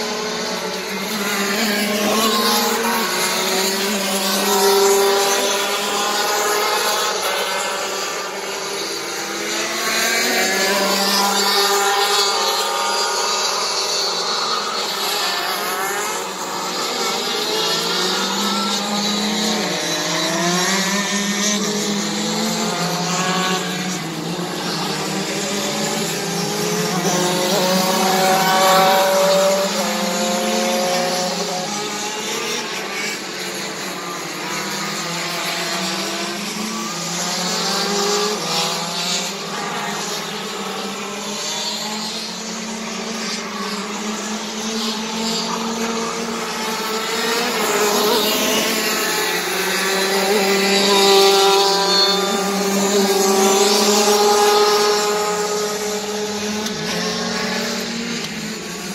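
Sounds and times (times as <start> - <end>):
racing kart engines: 0.0 - 58.9.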